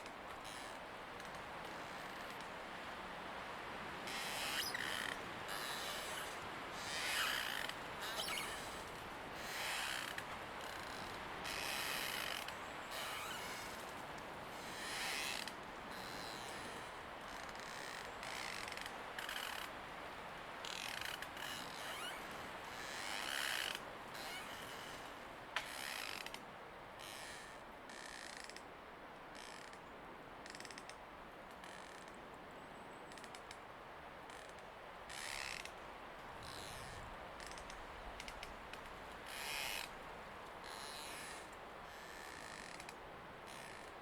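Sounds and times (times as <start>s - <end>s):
rustling leaves: 0.0s - 26.4s, 32.7s - 44.0s
wind blowing through trees: 0.0s - 44.0s.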